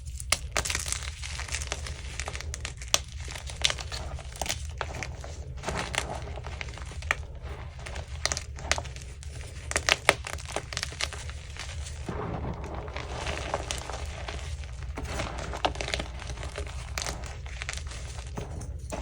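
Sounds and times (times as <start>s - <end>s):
chalk chunks crunching: 0.0s - 19.0s.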